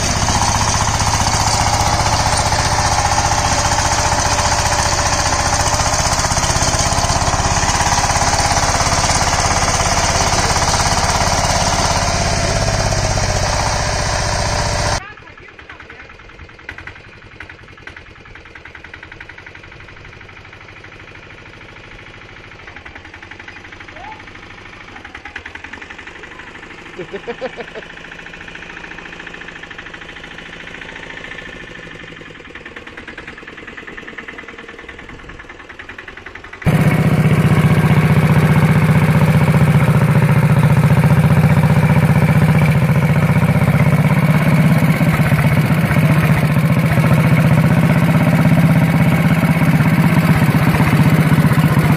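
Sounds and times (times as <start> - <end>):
walk-behind tractor engine running: 0.0 - 51.9.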